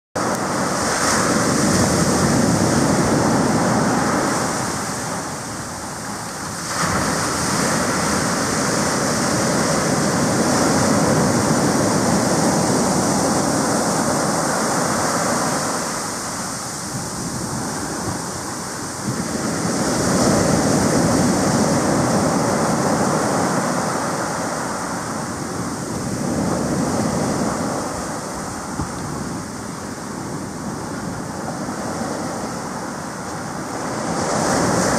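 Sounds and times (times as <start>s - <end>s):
ocean surf breaking on sand: 0.2s - 34.9s.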